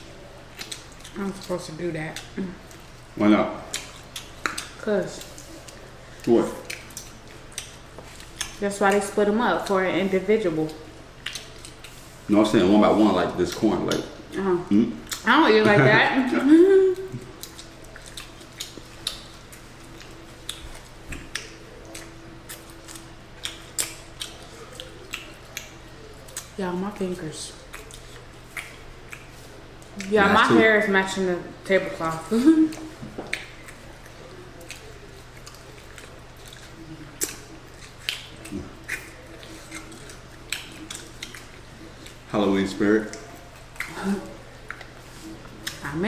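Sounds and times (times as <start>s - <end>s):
wet chewing and mouth smacks: 0.0s - 14.4s, 15.0s - 15.3s, 16.8s - 30.6s, 32.5s - 46.0s.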